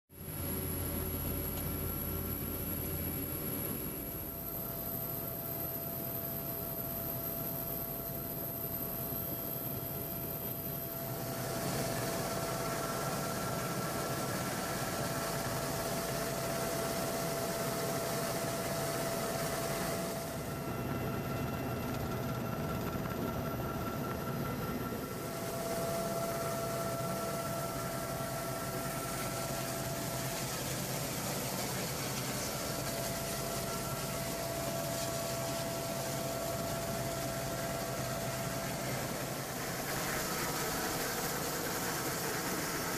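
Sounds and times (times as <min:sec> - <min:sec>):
helicopter engine and rotor drone: 0:00.2 - 0:42.9
high turbine whine: 0:00.2 - 0:42.9.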